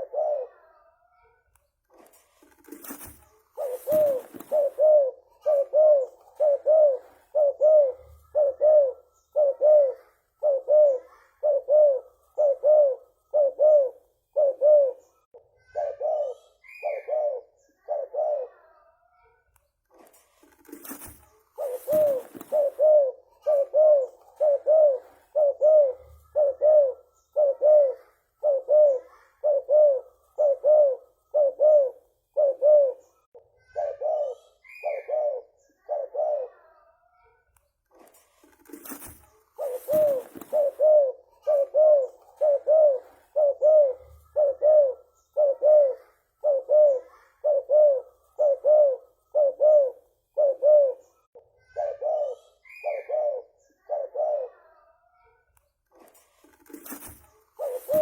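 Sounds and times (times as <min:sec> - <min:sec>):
dove cooing: 0:00.0 - 0:01.0, 0:01.9 - 0:18.9, 0:20.4 - 0:36.8, 0:38.0 - 0:55.0, 0:56.0 - 0:58.0.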